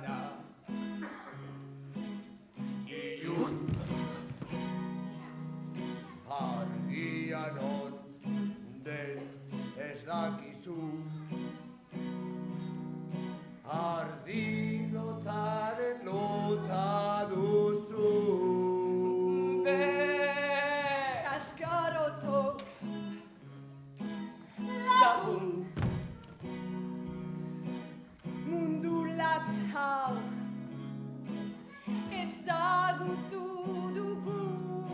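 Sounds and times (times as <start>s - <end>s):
instrumental accompaniment: 0.0s - 34.9s
person singing: 2.8s - 12.6s, 13.6s - 23.1s, 24.0s - 27.0s, 27.6s - 34.9s.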